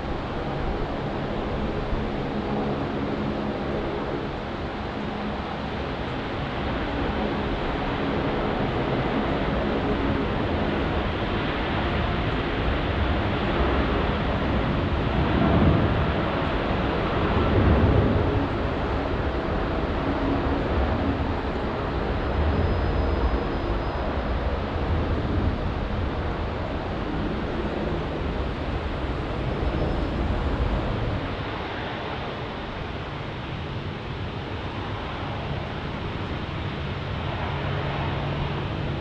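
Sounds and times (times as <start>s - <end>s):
jet airliner taking off: 0.0s - 39.0s.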